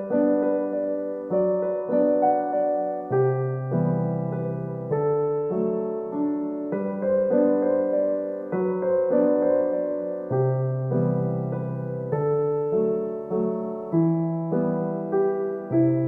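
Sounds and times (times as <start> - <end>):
soft solo piano music: 0.0 - 16.0.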